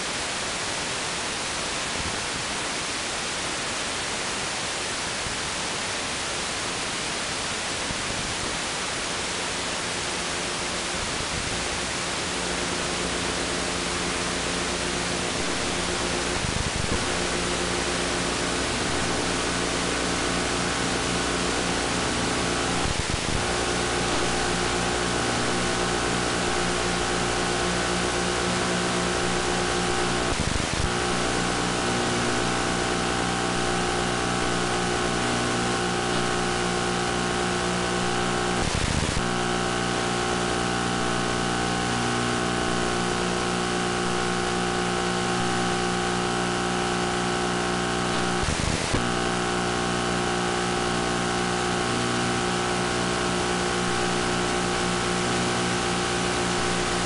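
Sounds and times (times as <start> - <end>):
static hiss: 0.0 - 57.0
steady multi-tone hum: 8.8 - 57.0.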